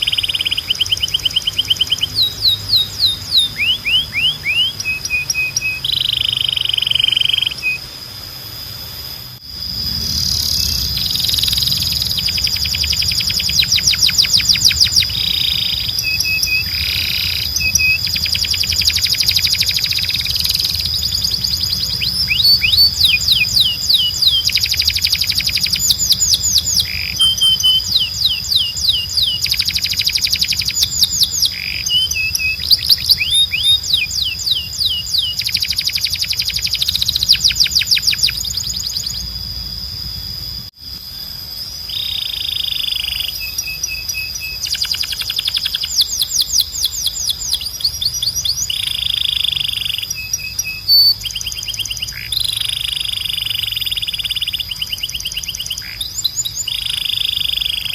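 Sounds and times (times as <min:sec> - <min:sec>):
steady high tone: 0:00.0 - 0:48.1
canary singing trills: 0:00.0 - 0:57.9.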